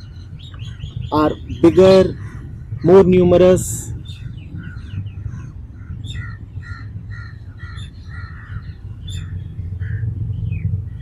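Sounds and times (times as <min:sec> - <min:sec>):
birds calling: 0:00.0 - 0:11.0
steady low rumble: 0:00.0 - 0:11.0.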